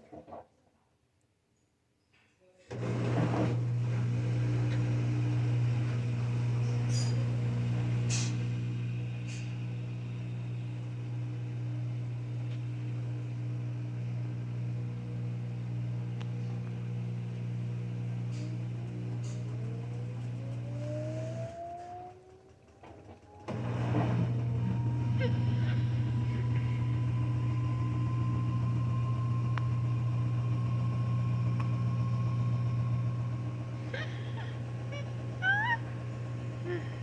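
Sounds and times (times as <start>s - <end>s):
washing machine drum whine: 2.7s - 37.0s
washing machine motor hum: 2.7s - 37.0s.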